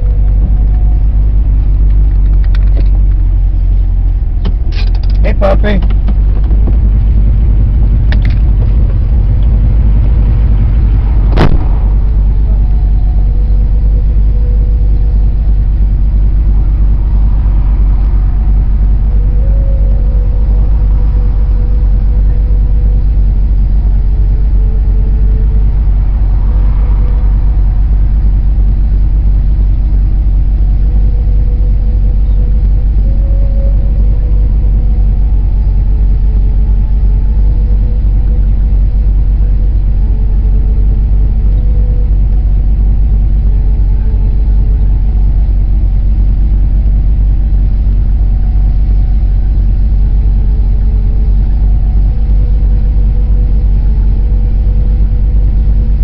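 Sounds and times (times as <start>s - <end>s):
vehicle engine idling: 0.0s - 56.0s.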